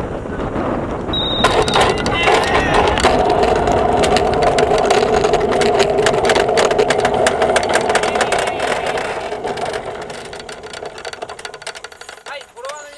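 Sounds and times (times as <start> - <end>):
rapid rattling clicks: 0.0 - 12.9.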